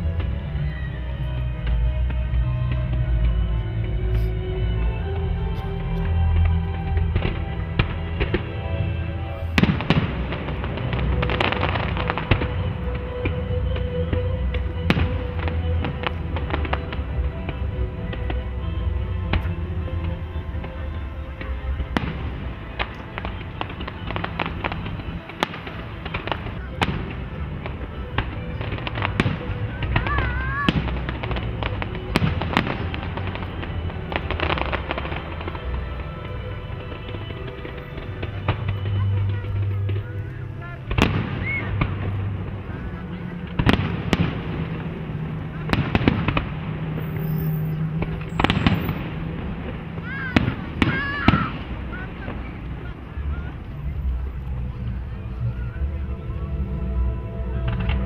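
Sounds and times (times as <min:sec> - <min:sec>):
fireworks crackling: 0:00.0 - 0:58.0
music: 0:00.0 - 0:58.0
steady low rumble: 0:00.0 - 0:58.0
fireworks bangs: 0:05.6 - 0:18.6, 0:19.3 - 0:54.2.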